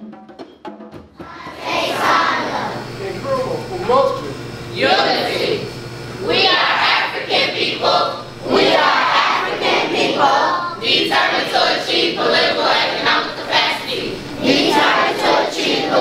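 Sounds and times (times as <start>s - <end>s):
group reciting in unison: 1.2s - 3.0s, 4.7s - 16.0s.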